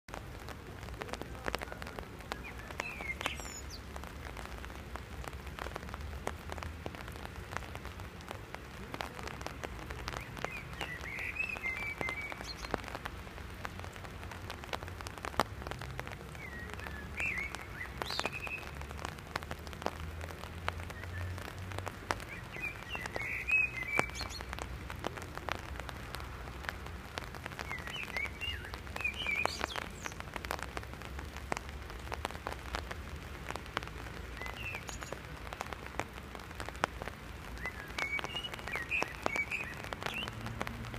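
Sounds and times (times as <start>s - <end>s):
rain falling: 0.0s - 40.9s
raindrops tapping on umbrella: 0.1s - 40.9s
songbird singing: 0.1s - 40.9s.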